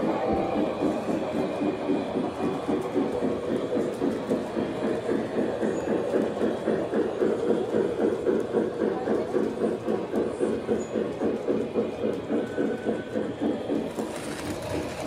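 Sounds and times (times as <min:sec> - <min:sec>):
toy trains running on track: 0:00.0 - 0:15.0.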